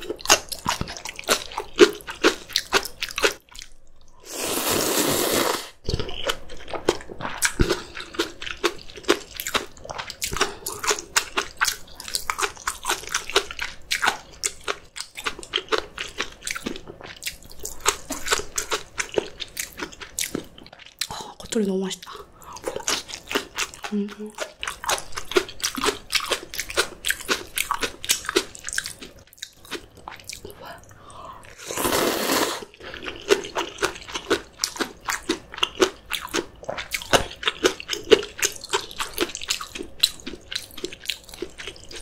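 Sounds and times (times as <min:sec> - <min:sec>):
person crunching and chewing food: 0:00.0 - 0:42.0.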